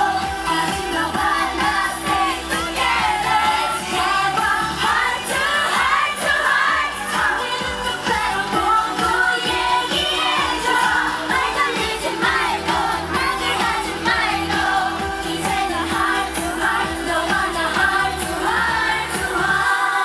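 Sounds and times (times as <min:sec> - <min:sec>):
girl group singing over a beat: 0:00.0 - 0:20.0.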